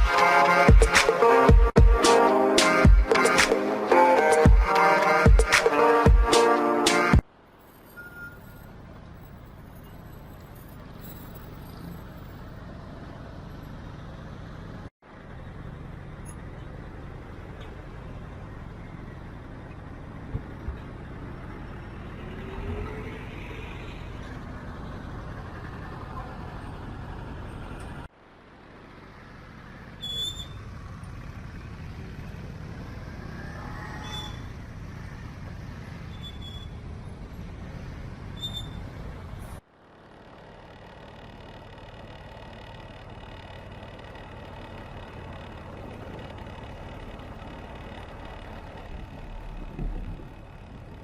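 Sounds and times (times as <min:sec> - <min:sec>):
city street traffic rumble: 0:00.0 - 0:51.0.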